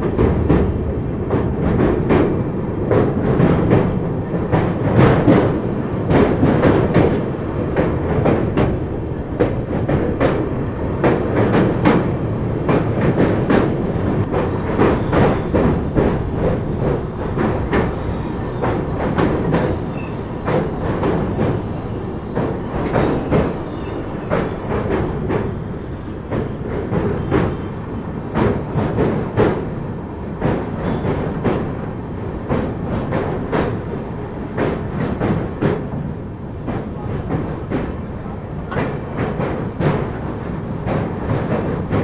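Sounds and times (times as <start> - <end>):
train rumbling over bridge: 0.0 - 42.0
train wheels clattering: 0.0 - 42.0.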